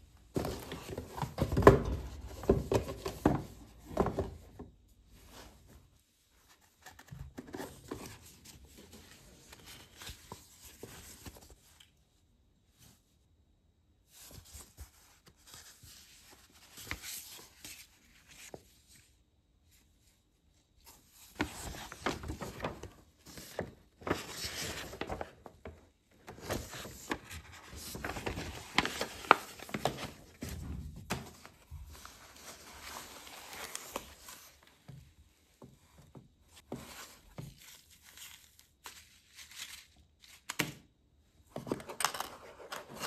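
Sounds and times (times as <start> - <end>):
paper rustling and crinkling: 0.3 - 4.4, 5.1 - 12.0, 14.1 - 19.1, 20.8 - 35.0, 35.7 - 40.7.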